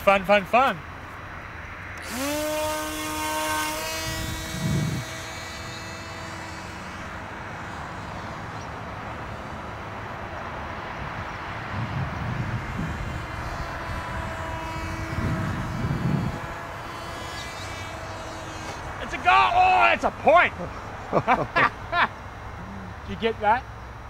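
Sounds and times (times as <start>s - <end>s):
electric motor and propeller whine: 0.0s - 24.0s.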